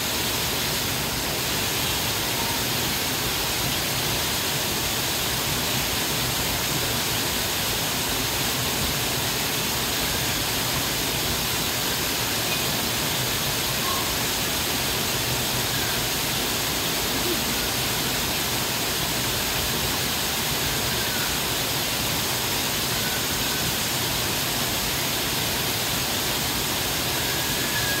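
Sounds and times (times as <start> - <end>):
falling water rushing: 0.0 - 28.0.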